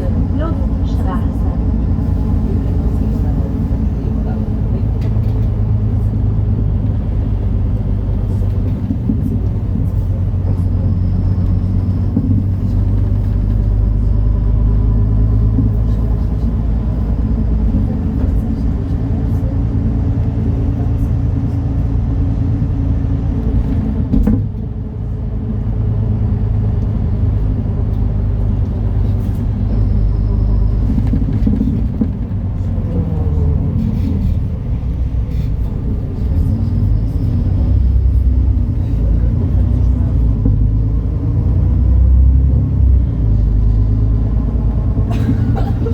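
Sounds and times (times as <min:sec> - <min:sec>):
bus diesel engine droning: 0:00.0 - 0:45.9.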